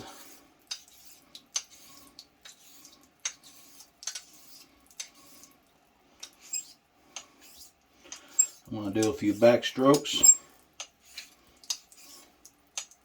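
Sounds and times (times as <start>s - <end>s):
steel scraping on stone: 0.0s - 5.6s, 6.2s - 12.4s.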